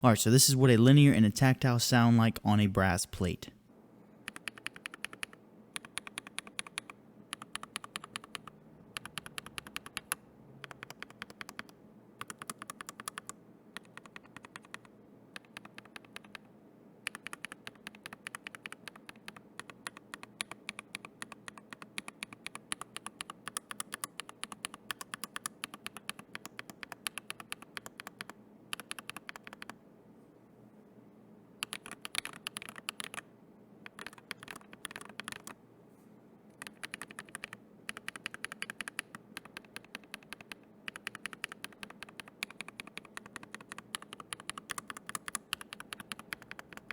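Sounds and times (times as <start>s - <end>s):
mechanical keyboard typing: 4.2s - 16.4s, 17.0s - 29.8s, 31.6s - 35.6s, 36.6s - 46.9s.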